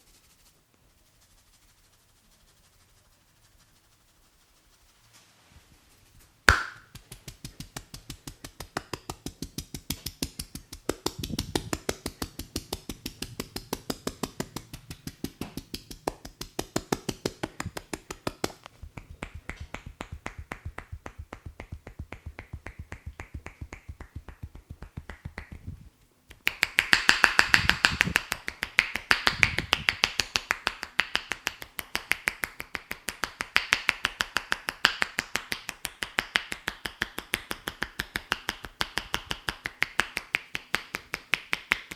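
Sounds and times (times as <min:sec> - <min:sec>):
hands tapping on head: 0:06.4 - 0:41.9.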